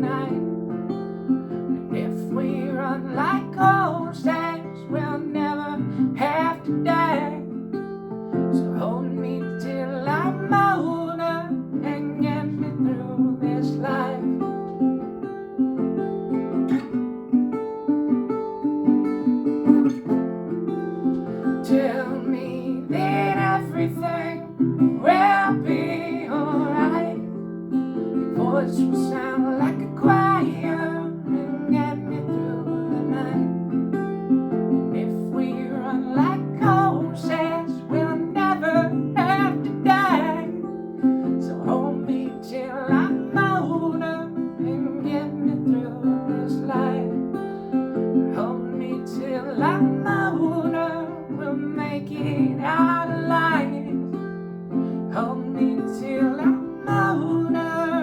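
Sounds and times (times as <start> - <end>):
person singing: 0.0 - 0.6, 1.2 - 15.0, 20.8 - 58.0
acoustic guitar strumming: 0.0 - 58.0.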